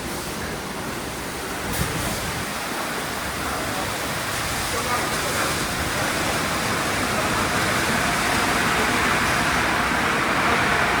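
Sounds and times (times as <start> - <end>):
car wash rushing noise: 0.0 - 11.0.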